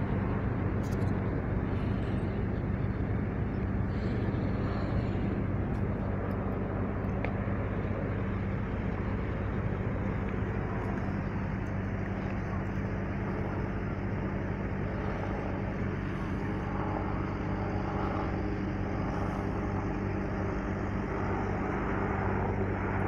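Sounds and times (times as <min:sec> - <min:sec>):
low engine hum: 0:00.0 - 0:23.0
road traffic noise: 0:00.0 - 0:23.0.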